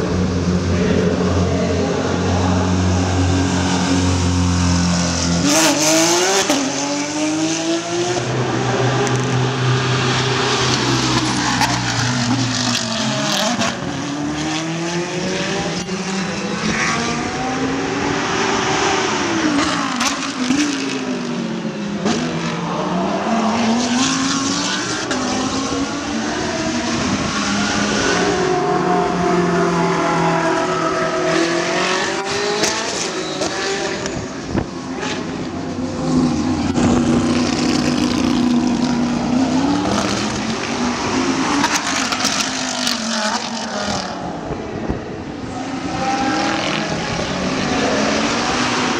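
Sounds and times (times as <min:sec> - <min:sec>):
race car engines revving: 0:00.0 - 0:48.9.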